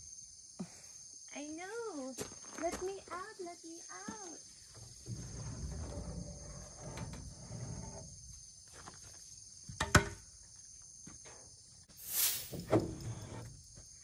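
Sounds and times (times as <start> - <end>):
insect drone: 0.0 - 14.0.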